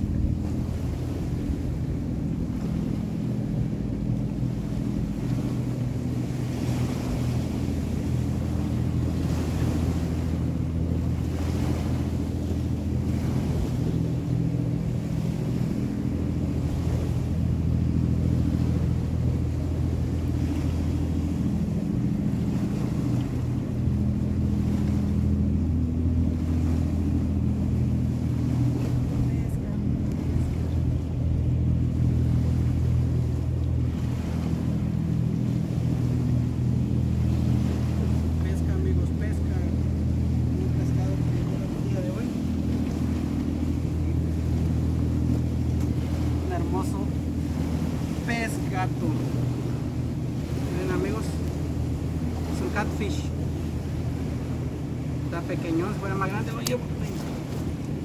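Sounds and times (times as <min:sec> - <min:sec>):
boat engines droning: 0:00.0 - 0:58.0.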